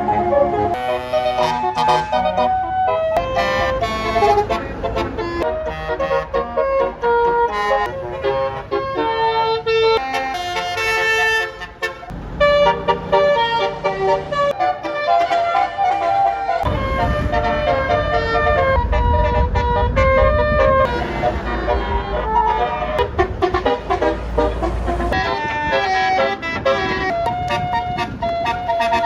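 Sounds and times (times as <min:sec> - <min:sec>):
multi-tone musical bus horn: 0:00.0 - 0:29.0.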